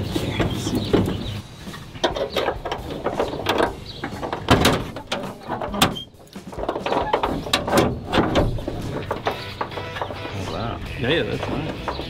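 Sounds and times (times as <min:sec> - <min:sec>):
metal knocks and rattles: 0:00.0 - 0:12.0.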